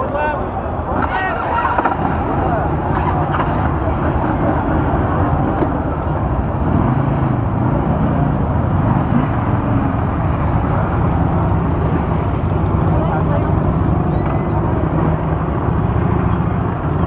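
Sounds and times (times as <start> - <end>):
motor vehicles running: 0.0 - 17.0
street noise: 0.0 - 17.0.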